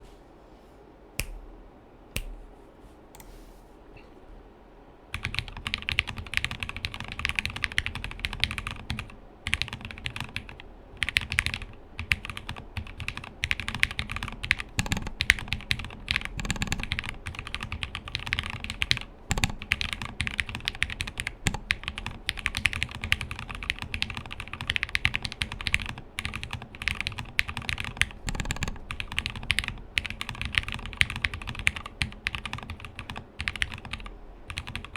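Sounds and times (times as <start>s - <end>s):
mechanical keyboard typing: 5.2s - 34.9s.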